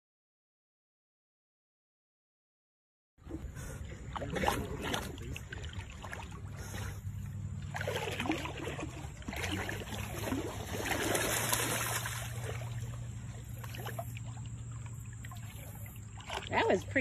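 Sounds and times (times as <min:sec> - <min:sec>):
steady low hum: 0:03.2 - 0:17.0
water splashing from dog swimming: 0:03.2 - 0:17.0.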